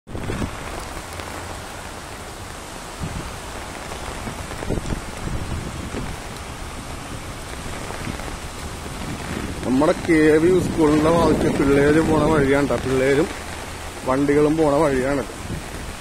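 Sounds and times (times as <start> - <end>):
rain on wet road: 0.1 - 16.0.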